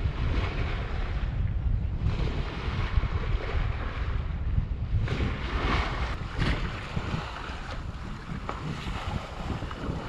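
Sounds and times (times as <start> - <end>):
water splashing along hull: 0.0 - 10.0
wind buffeting microphone: 0.0 - 10.0.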